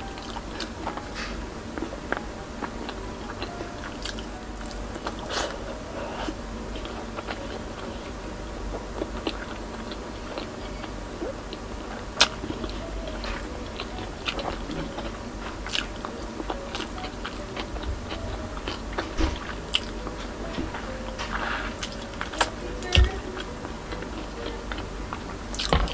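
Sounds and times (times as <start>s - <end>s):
low hum: 0.0s - 25.9s
chewing and mouth sounds: 0.1s - 25.9s.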